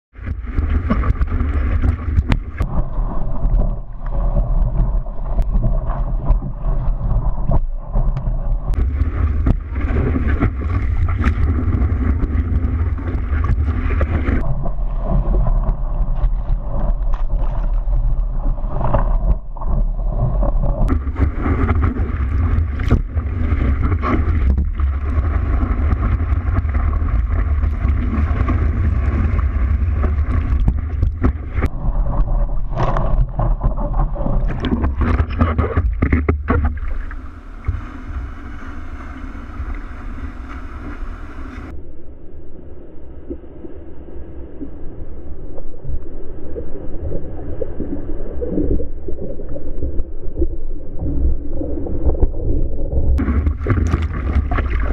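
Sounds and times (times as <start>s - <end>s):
motorboat engine rumble: 0.1s - 41.8s, 49.9s - 54.9s.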